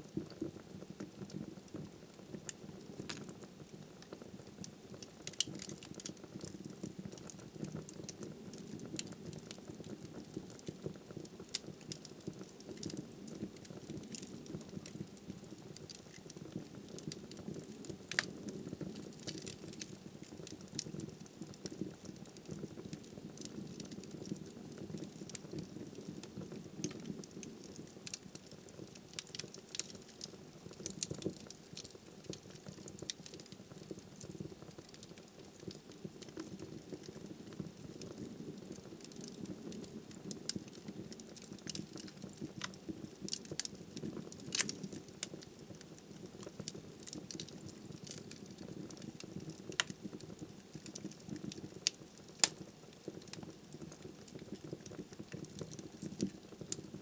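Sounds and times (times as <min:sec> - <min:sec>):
fire flames rustling: 0:00.0 - 0:57.0
firewood crackling and popping: 0:00.0 - 0:57.0.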